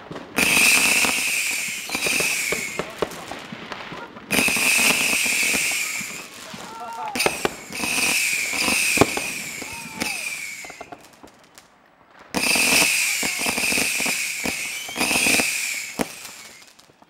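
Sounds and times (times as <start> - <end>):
fireworks bangs: 0.0 - 17.0
fireworks crackling: 0.0 - 17.0
fireworks whistling: 0.1 - 11.7, 12.3 - 17.0.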